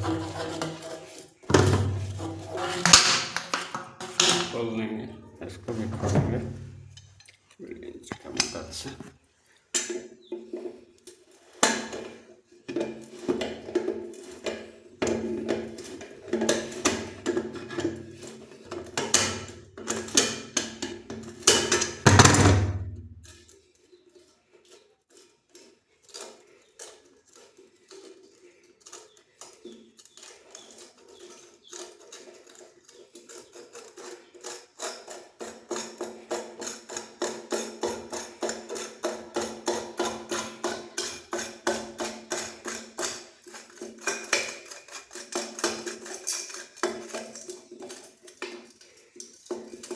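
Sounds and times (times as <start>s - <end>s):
parts and tools clattering: 0.0s - 4.8s, 5.4s - 7.5s, 9.8s - 49.9s.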